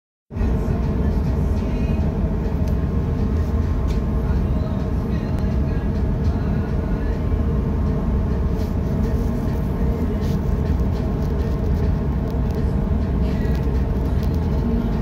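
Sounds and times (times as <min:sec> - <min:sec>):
constant hum: 0:00.3 - 0:15.0
ship engines rumbling: 0:00.3 - 0:15.0.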